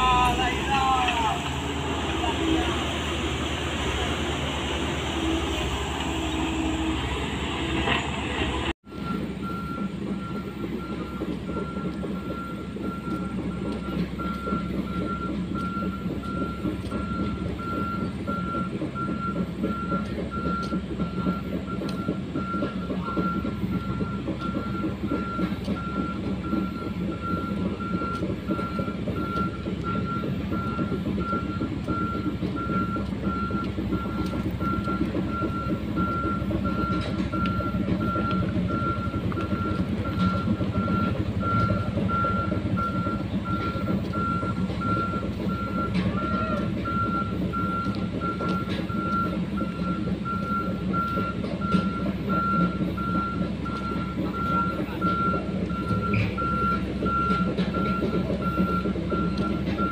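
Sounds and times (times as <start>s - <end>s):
diesel engine running: 0.0s - 59.9s
reversing alarm beeps: 8.9s - 59.9s.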